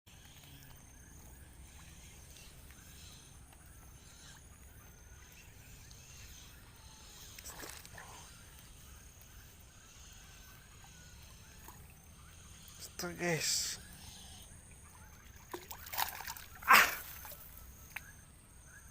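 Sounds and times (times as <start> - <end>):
insects: 0.1 - 18.9.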